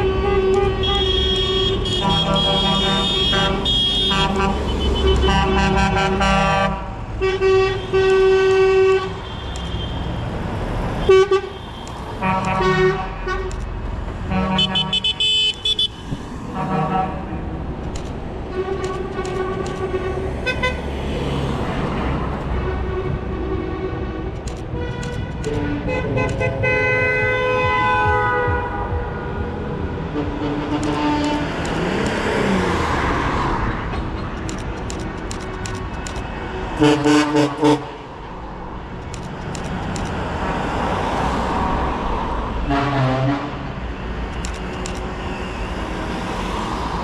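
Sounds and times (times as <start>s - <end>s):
truck horns honking: 0.0s - 38.4s, 42.5s - 46.6s
truck engines running: 0.0s - 47.0s.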